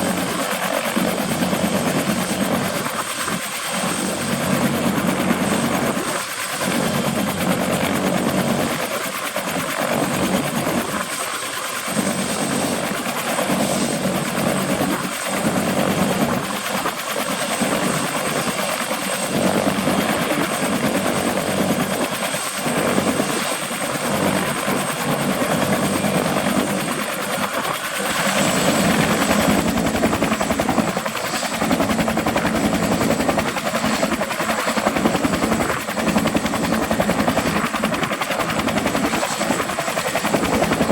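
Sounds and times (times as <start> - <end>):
helicopter turbine and rotor noise: 0.0 - 40.9.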